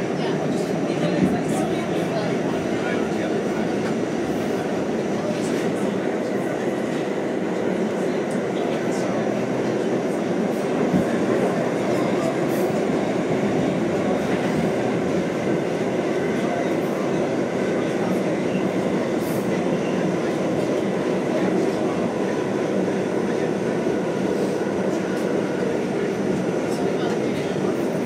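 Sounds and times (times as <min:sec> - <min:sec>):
subway car wheels rumbling on rail: 0:00.0 - 0:28.0.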